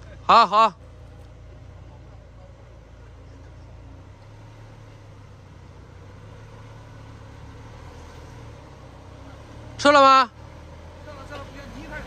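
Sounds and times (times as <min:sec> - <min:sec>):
suv engine low hum: 0:00.0 - 0:12.0.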